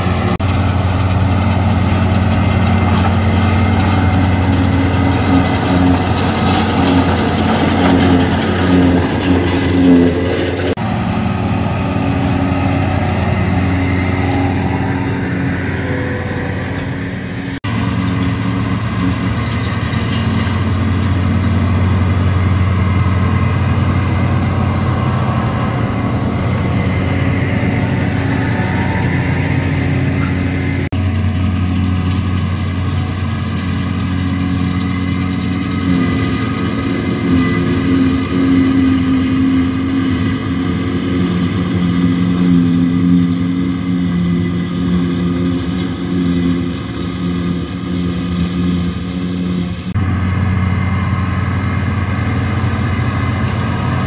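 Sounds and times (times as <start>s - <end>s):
forage harvester chopping grass: 0.0s - 15.1s, 17.6s - 54.0s
tractor diesel engines running: 0.0s - 54.0s.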